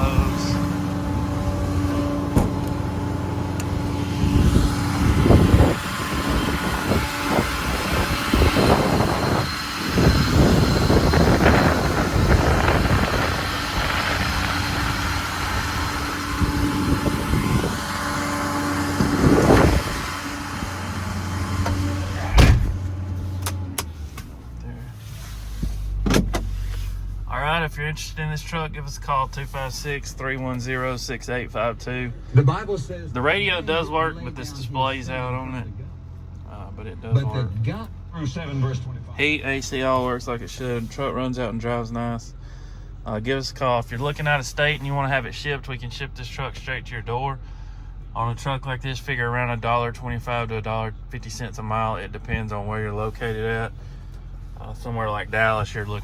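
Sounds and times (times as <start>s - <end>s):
diesel engine humming: 0.0s - 56.0s.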